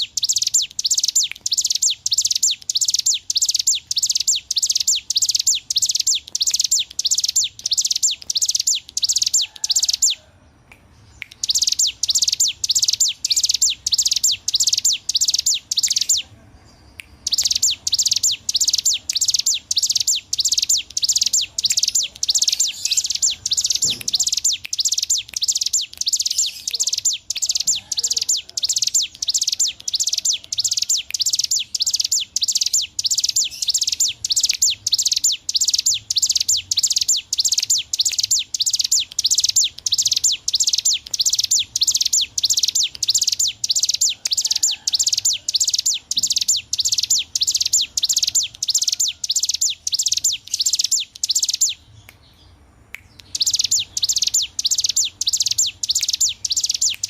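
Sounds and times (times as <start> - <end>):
bird singing chattering bursts: 0.0 - 10.2, 11.0 - 16.3, 17.0 - 52.3, 53.0 - 57.0.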